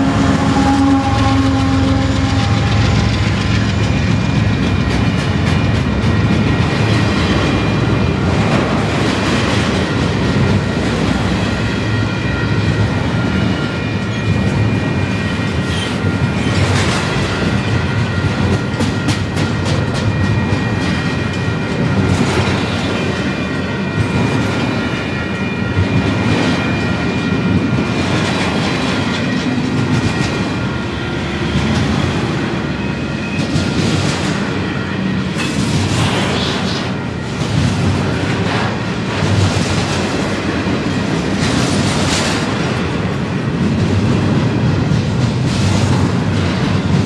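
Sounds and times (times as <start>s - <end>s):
steel wheels clattering over rail joints: 0.0s - 47.0s.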